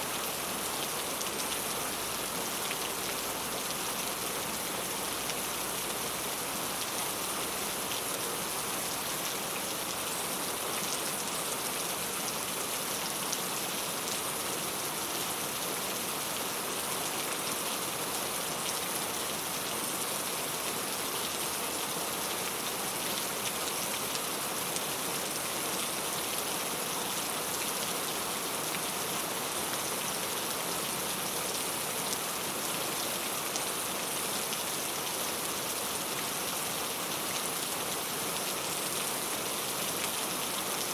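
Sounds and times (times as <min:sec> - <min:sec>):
rain on a tile roof: 0:00.0 - 0:40.9.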